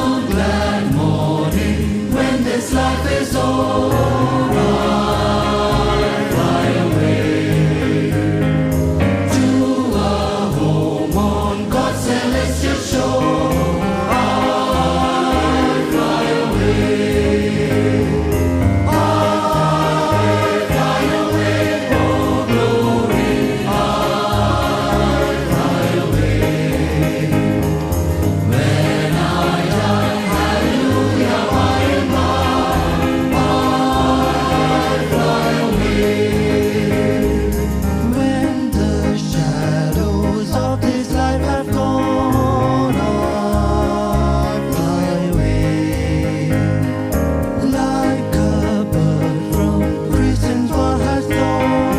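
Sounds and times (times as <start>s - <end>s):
choir singing gospel music: 0.0s - 51.9s.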